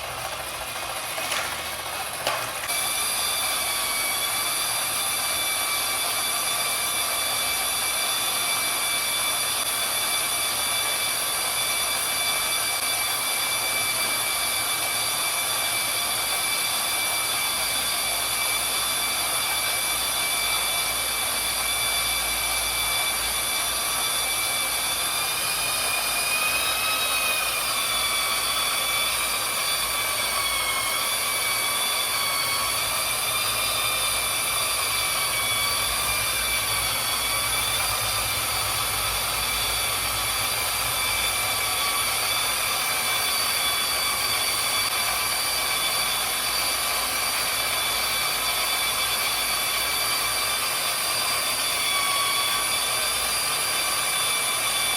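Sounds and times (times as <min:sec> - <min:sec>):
electric motors whining: 0:00.0 - 0:54.9.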